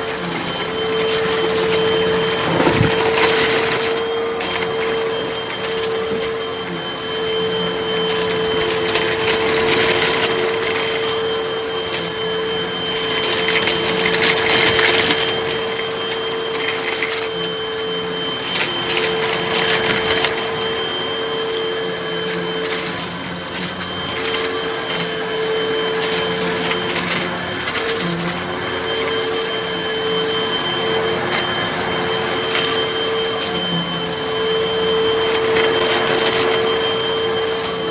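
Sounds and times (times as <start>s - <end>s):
vacuum cleaner motor humming: 0.0s - 37.9s.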